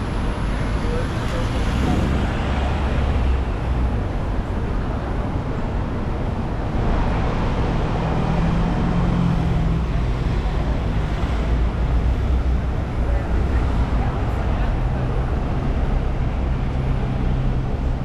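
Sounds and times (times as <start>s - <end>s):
low engine drone: 0.0s - 18.0s
rumble of passing traffic: 0.0s - 18.0s.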